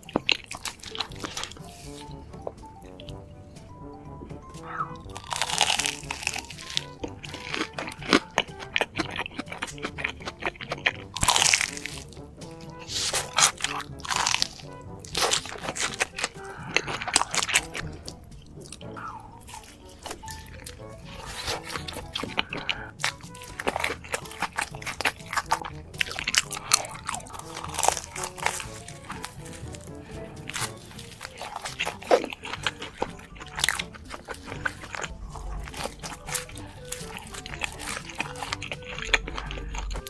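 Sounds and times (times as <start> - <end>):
crunching and chewing food: 0.0 - 40.0
soft background music: 0.0 - 40.0.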